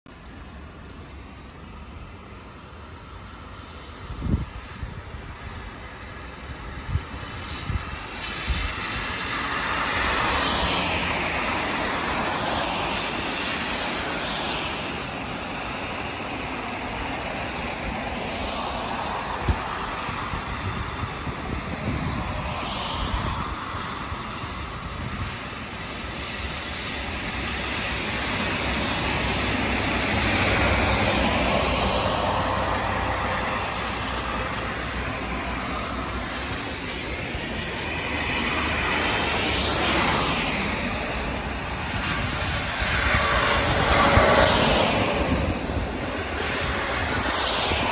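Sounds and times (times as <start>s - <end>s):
tyres hissing on wet road: 0.1s - 47.9s.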